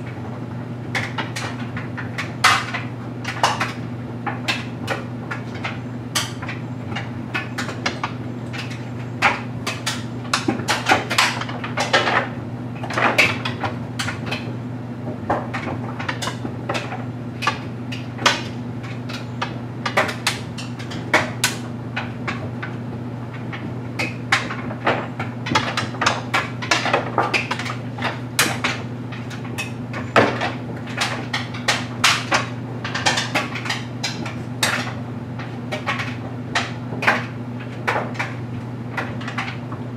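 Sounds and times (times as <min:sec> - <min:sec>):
clothes dryer humming: 0:00.0 - 0:39.9
load knocking in dryer drum: 0:00.0 - 0:39.9.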